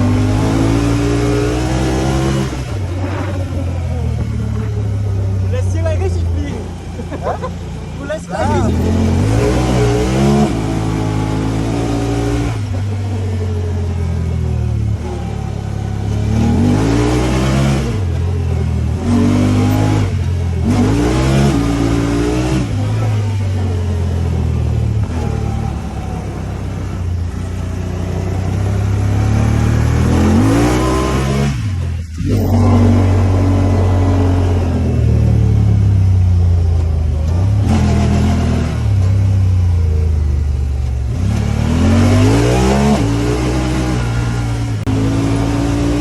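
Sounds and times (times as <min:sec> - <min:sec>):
engine revving: 0:00.0 - 0:46.0.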